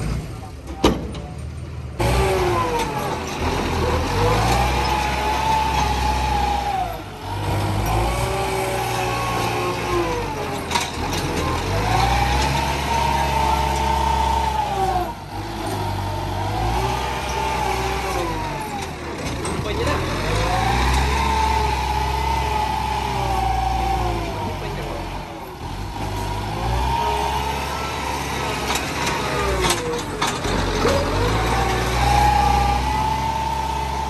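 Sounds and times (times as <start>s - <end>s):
tractor engine revving: 0.0s - 34.0s.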